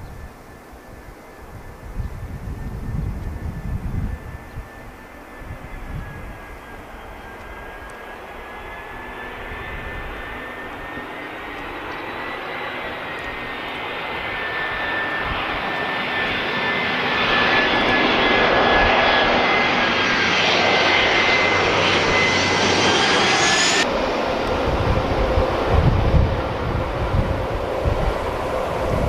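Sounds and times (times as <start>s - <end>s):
jet airliner roaring overhead: 0.0s - 29.0s.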